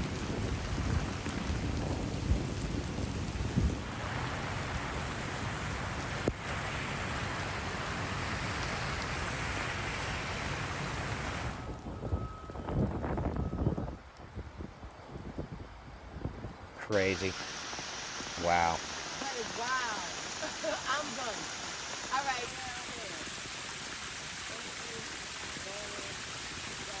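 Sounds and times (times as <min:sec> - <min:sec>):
heavy rain on street: 0:00.0 - 0:27.0.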